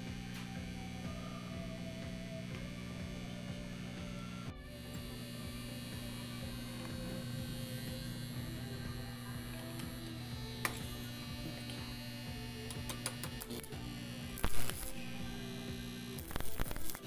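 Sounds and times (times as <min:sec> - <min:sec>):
transformers humming: 0:00.0 - 0:17.0.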